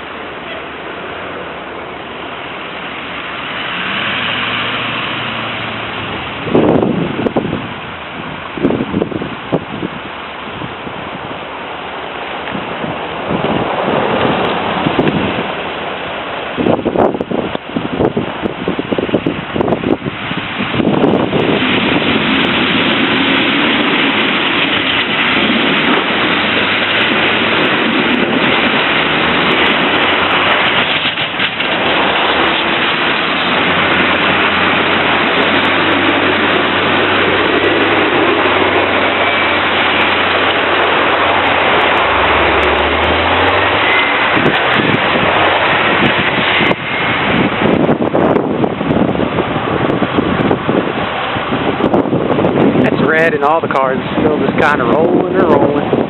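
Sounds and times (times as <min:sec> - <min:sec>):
loud rush of noise: 0:00.0 - 0:56.0
truck engine drone: 0:00.0 - 0:56.0.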